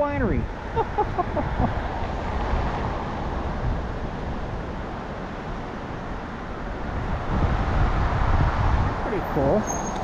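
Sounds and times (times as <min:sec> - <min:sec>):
wind rush on microphone: 0:00.0 - 0:10.0.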